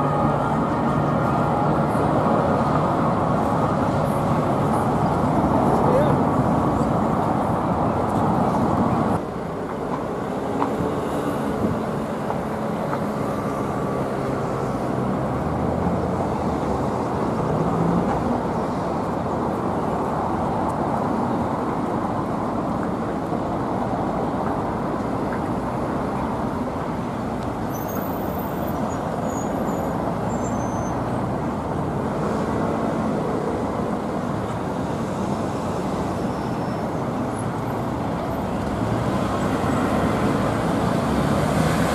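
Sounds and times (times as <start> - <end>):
heavy city traffic: 0.0 - 41.9.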